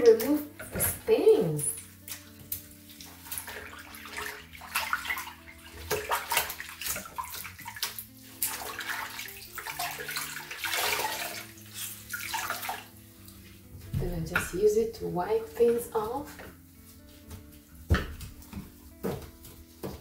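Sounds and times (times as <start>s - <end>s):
water sloshing in sink: 0.0s - 20.0s
wet cloth swishing: 1.0s - 14.8s, 15.4s - 20.0s.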